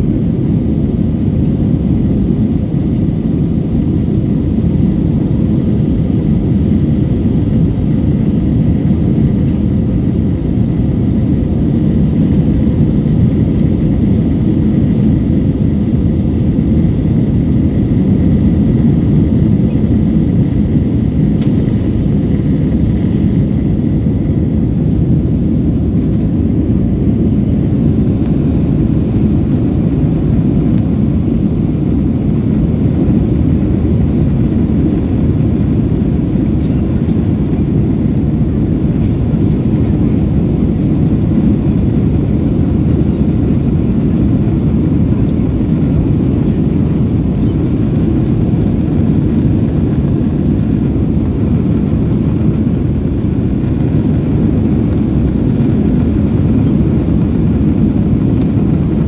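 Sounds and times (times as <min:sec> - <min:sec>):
jet engine rumble: 0:00.0 - 0:59.0.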